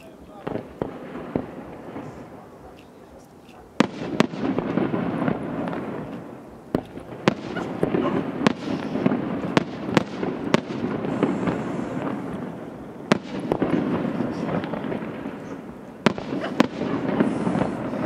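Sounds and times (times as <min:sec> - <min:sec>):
firework shells bursting: 0:00.0 - 0:18.0
fireworks rumble and crackle: 0:00.0 - 0:18.0.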